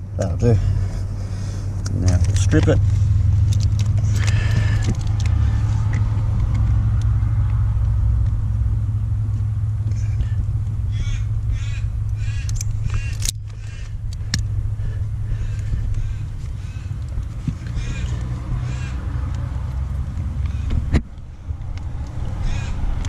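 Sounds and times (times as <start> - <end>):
car low hum: 0.0 - 23.0
wire strippers clicking and scraping: 0.8 - 23.0.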